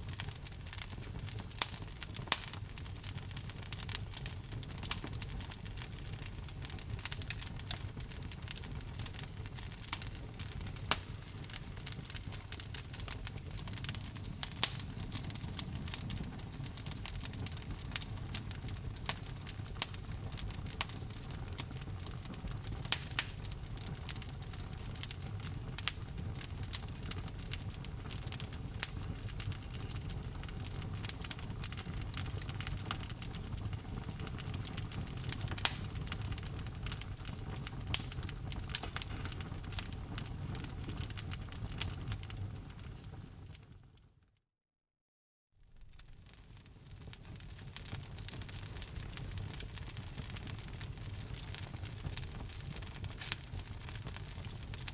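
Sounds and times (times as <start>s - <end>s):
low rumble of flame: 0.0s - 44.0s, 45.6s - 54.9s
fire crackling and popping: 0.0s - 44.1s, 45.6s - 54.9s.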